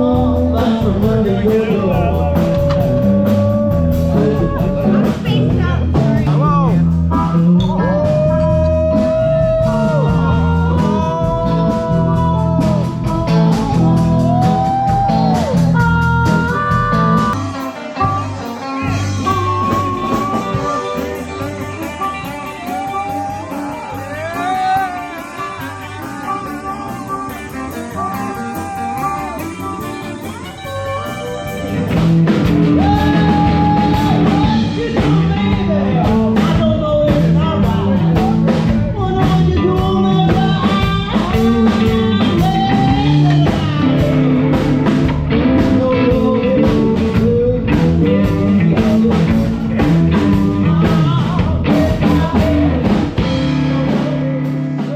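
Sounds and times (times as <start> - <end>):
drums: 0.0 - 54.9
rock music with singing: 0.0 - 54.9.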